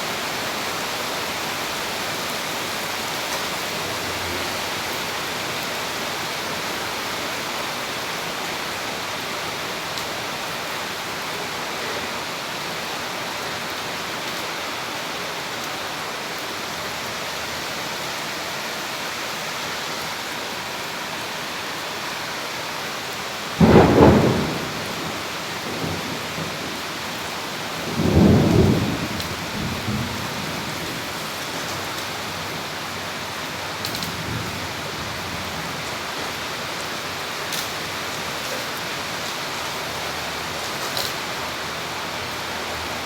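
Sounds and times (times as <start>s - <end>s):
heavy rain downpour: 0.0s - 43.0s.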